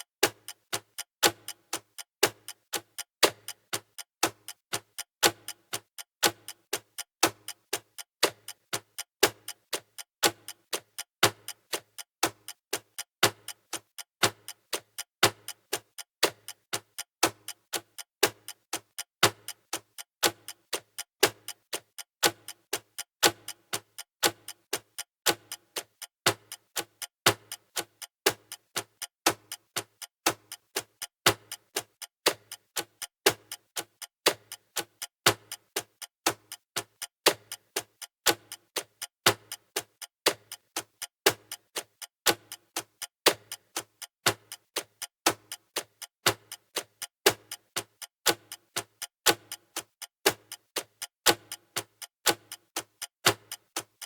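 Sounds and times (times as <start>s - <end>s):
clocks ticking: 0.0s - 54.0s.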